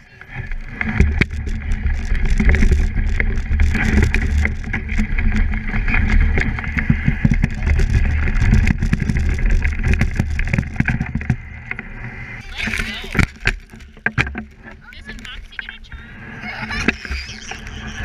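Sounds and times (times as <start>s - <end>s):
plastic sled scraping over snow: 0.0s - 18.0s.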